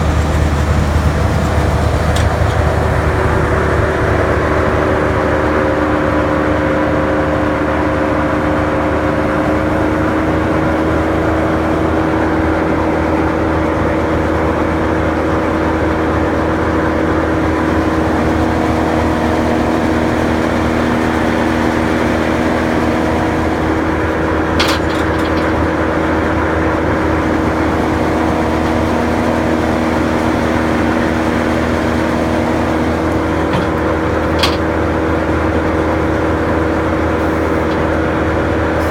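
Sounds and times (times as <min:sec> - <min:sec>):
wood chipper diesel engine running: 0:00.0 - 0:38.9.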